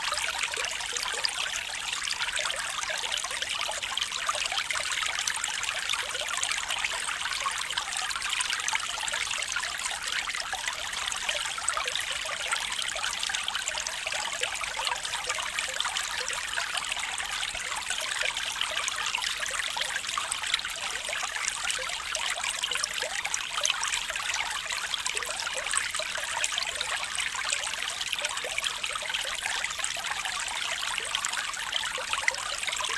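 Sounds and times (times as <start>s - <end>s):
stream water babbling: 0.0s - 32.9s.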